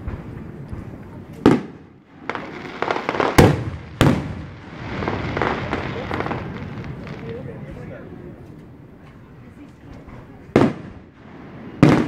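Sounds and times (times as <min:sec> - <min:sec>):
fireworks bangs: 0:00.0 - 0:08.0, 0:10.0 - 0:12.0
soft quick fireworks pops: 0:00.0 - 0:12.0.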